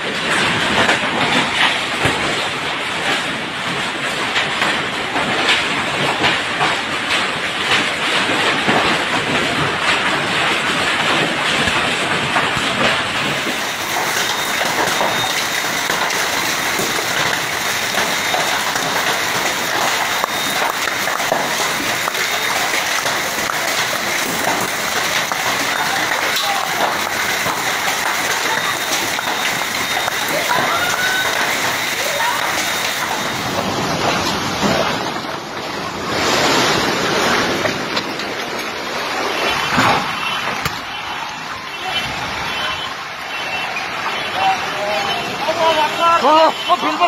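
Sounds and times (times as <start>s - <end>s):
hail clattering on ground: 0.0s - 47.0s
heavy rain: 0.0s - 47.0s.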